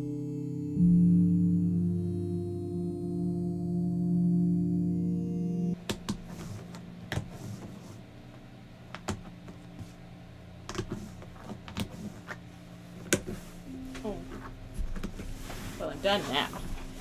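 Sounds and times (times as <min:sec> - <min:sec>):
soft ambient music: 0:00.0 - 0:17.0.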